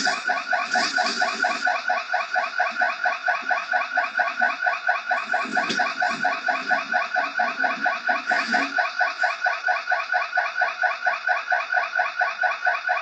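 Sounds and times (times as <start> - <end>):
electronic alarm tones: 0.0 - 13.0.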